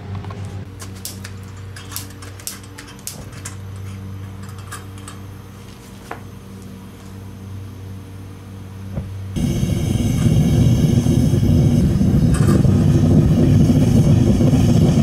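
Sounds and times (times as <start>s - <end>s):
furnace burner hum: 0.0s - 15.0s
heavy rumble of burner: 0.0s - 15.0s.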